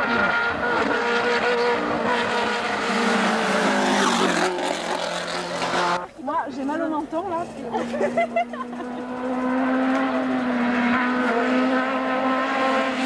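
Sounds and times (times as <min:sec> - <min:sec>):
rally car engine at high revs: 0:00.0 - 0:06.1, 0:07.3 - 0:13.0.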